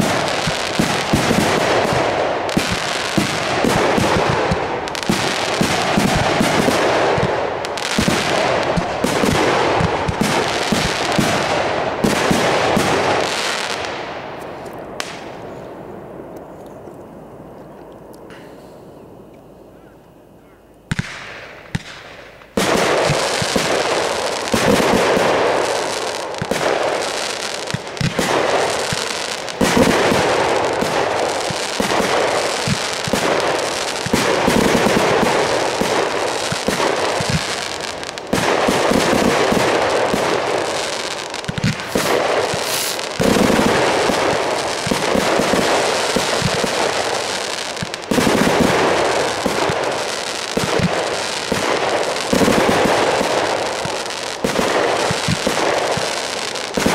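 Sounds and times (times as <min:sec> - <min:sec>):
fireworks bangs and crackling: 0:00.0 - 0:16.4, 0:20.9 - 0:56.9.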